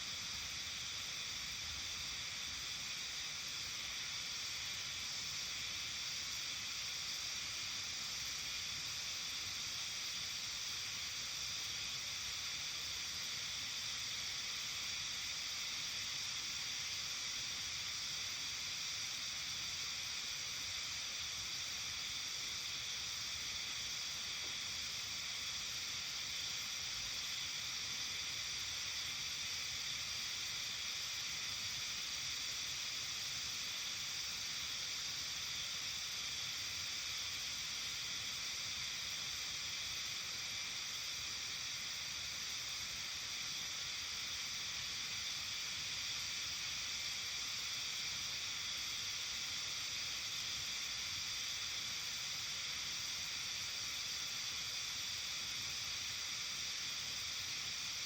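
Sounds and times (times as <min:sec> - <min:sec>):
insects calling: 0:00.0 - 0:58.0.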